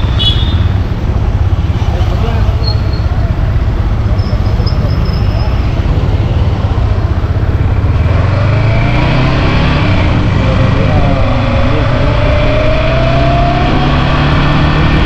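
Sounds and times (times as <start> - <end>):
motorcycle engine running: 0.0 - 12.2
road and wind noise: 0.0 - 15.0.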